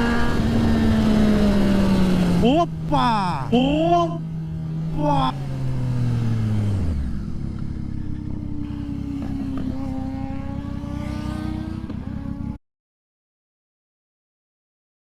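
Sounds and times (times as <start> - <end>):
motorcycle engine: 0.0 - 12.6.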